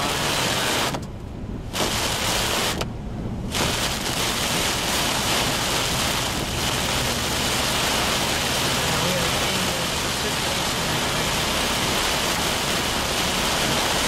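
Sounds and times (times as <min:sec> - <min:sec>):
heavy rain: 0:00.0 - 0:14.0
wind: 0:00.0 - 0:14.0.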